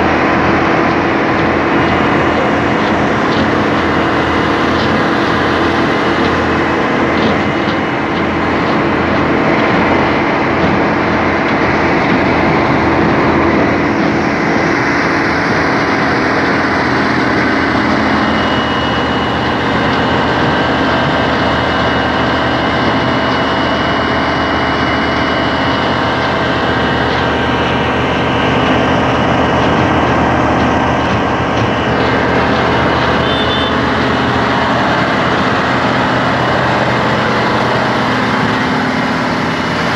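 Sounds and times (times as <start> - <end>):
drilling machine engine under load: 0.0 - 39.9.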